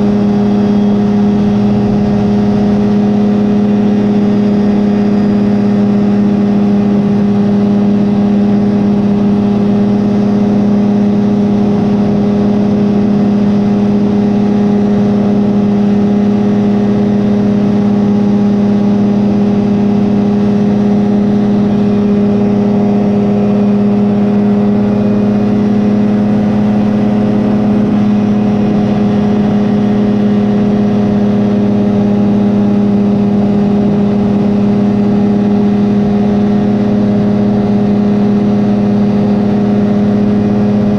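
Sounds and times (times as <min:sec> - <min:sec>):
aircraft engine running steadily: 0:00.0 - 0:40.9.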